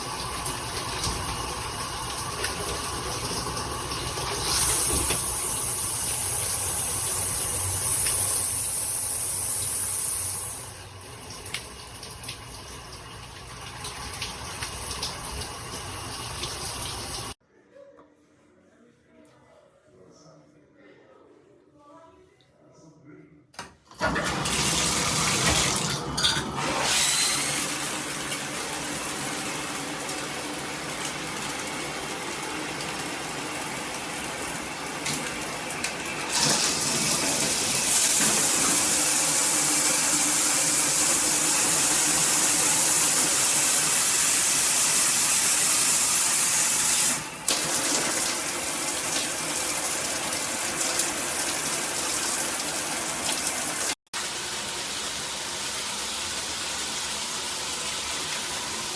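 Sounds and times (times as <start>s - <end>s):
shower spraying water: 0.0s - 17.4s, 24.0s - 26.0s, 26.6s - 58.9s.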